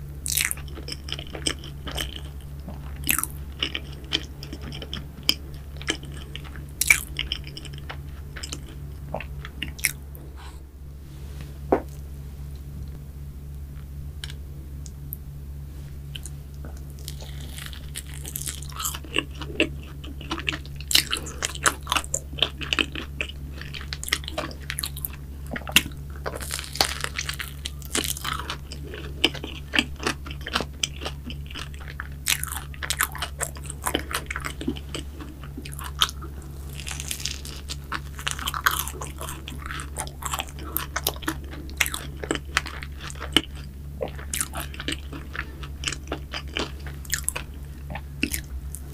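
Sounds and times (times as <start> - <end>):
steady low hum: 0.0 - 48.9
crunchy pastry chewing: 0.2 - 10.5, 13.7 - 15.2, 16.0 - 48.9.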